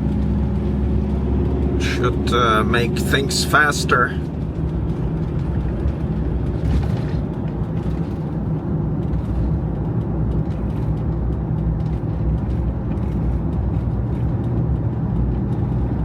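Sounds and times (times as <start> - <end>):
engine hum: 0.0 - 16.0
road and tyre rumble: 0.0 - 16.0.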